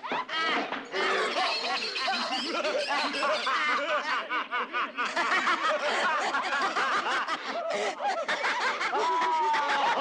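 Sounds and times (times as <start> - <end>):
people cackling laughter: 0.0 - 10.0.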